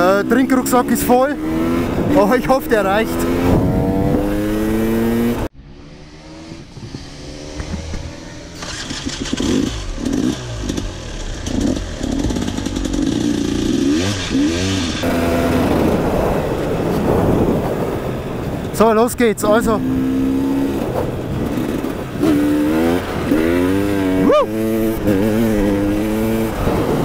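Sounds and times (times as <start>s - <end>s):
dirt bike engine revving: 0.0s - 17.6s, 19.5s - 27.0s.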